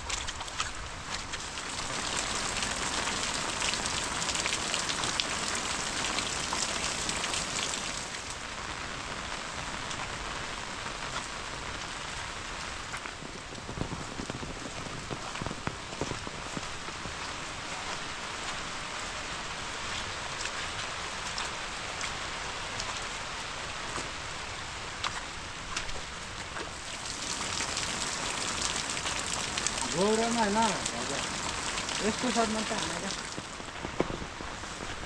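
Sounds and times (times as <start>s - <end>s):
raindrop hits: 0.0s - 23.0s, 26.7s - 35.0s
rain falling: 0.0s - 35.0s.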